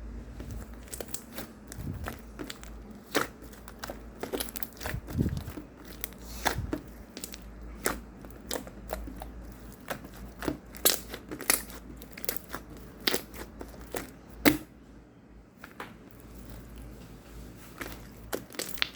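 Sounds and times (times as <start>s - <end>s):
crinkling and crackling clicks: 0.4s - 14.5s, 17.8s - 18.9s.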